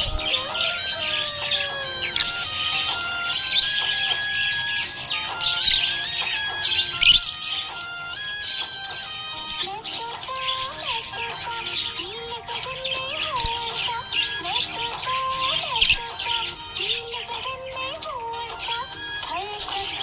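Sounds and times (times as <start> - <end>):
budgerigars chirping: 0.0 - 18.0
background music with gliding melody: 0.0 - 20.0.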